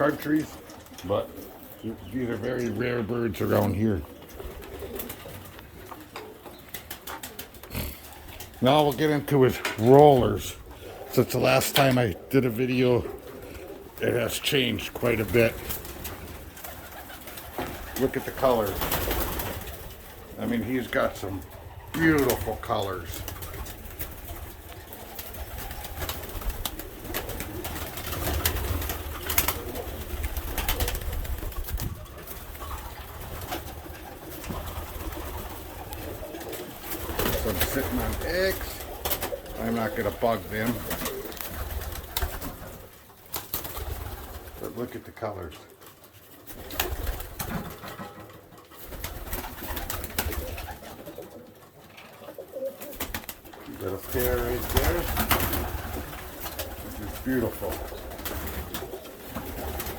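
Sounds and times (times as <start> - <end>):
pigeons cooing: 0.0 - 45.0, 45.6 - 59.9.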